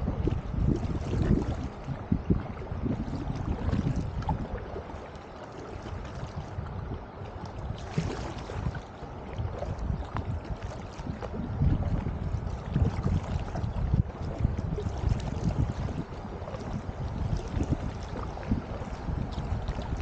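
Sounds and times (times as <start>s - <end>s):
paddle strokes in water: 0.0s - 20.0s
water lapping along hull: 0.0s - 20.0s
water splashing: 0.0s - 20.0s.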